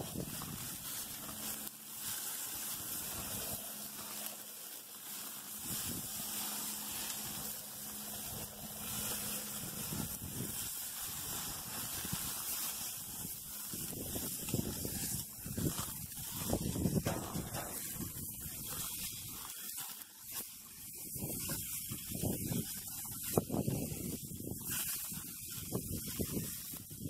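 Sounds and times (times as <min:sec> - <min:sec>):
patties sizzling on a grill: 0:00.0 - 0:27.0.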